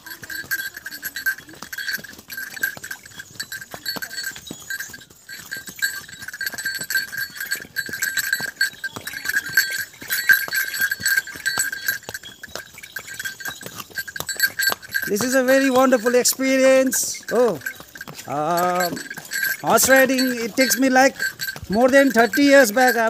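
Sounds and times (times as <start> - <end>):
hooves clopping on stone: 0.0 - 23.0
high-pitched ringing: 0.2 - 15.1, 17.2 - 21.7.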